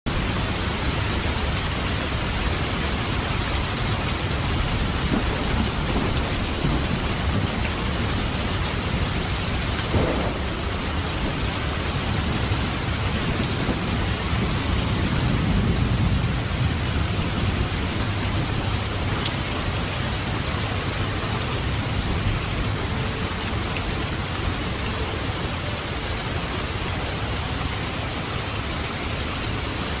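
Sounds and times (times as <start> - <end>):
heavy rain falling: 0.1 - 30.0.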